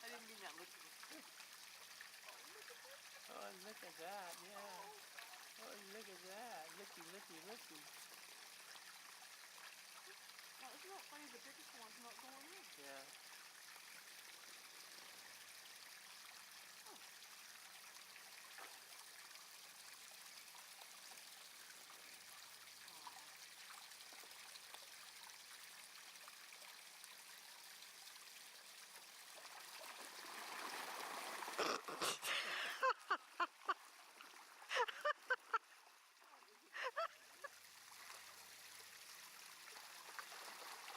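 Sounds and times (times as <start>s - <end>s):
water splashes: 0.0s - 40.9s
water trickling into bath: 0.0s - 40.9s.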